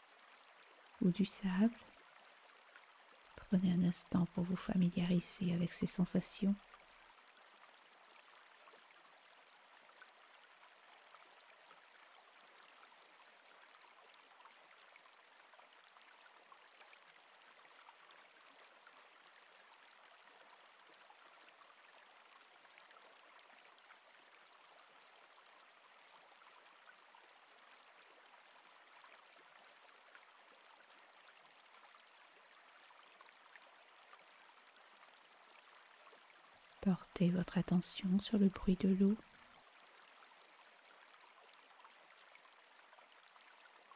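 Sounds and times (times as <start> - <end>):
faint flowing river water: 0.0 - 43.9.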